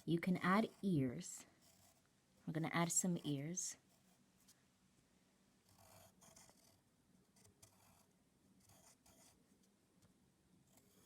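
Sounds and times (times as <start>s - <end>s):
faint drawing scratches: 0.0s - 4.6s, 5.6s - 9.8s, 10.6s - 11.0s.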